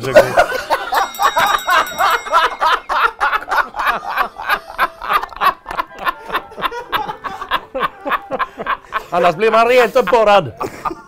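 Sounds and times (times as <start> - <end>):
men laughing: 0.0 - 11.0.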